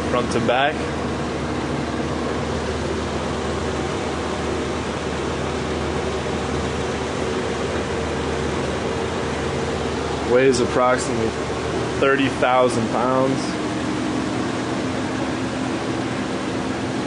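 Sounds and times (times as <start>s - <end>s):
low humming tones: 0.0s - 17.0s.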